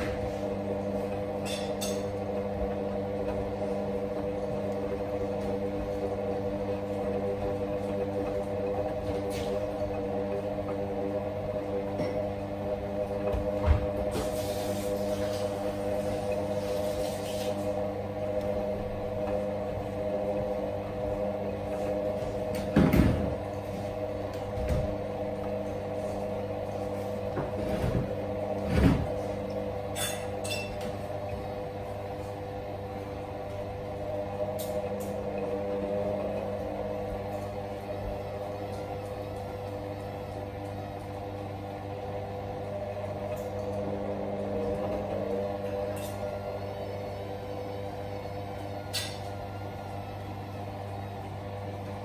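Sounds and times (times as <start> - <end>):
washing machine motor hum: 0.0 - 52.0.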